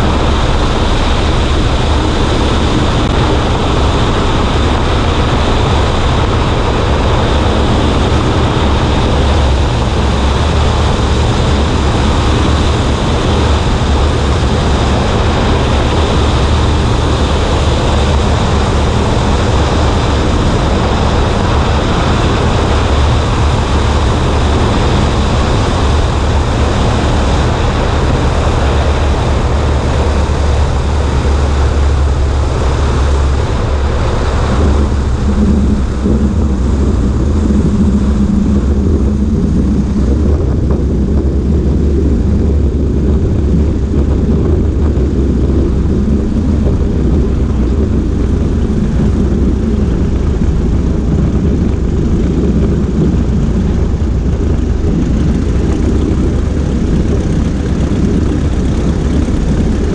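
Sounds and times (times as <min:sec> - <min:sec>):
airplane engine droning: 0:00.0 - 0:59.9
wind rushing over microphone: 0:00.0 - 0:59.9.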